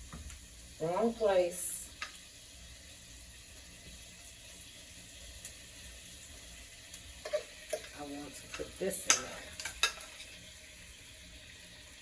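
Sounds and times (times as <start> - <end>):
juices sizzling faintly in a pot: 0.0 - 12.0.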